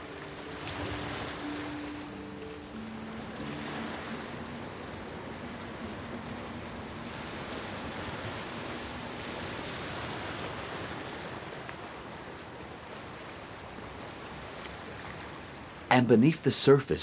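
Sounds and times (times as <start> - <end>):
water waves lapping: 0.0 - 17.0
wind: 0.0 - 17.0.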